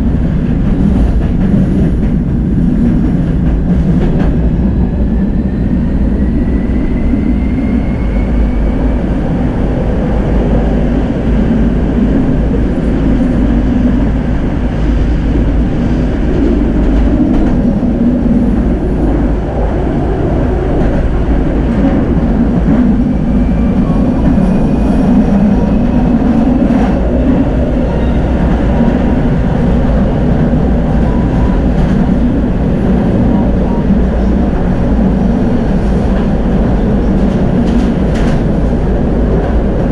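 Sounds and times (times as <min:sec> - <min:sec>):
tram wheels rumbling on rails: 0:00.0 - 0:39.9.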